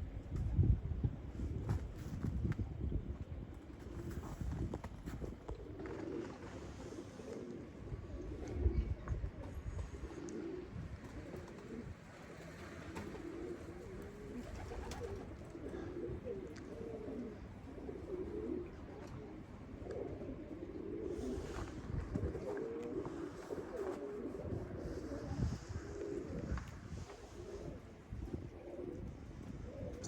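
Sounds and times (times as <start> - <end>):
pigeons cooing: 2.7 - 30.0.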